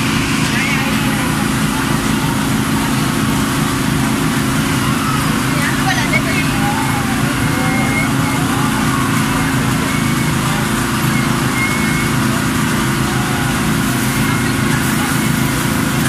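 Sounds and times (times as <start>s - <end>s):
small engine humming: 0.0s - 16.0s.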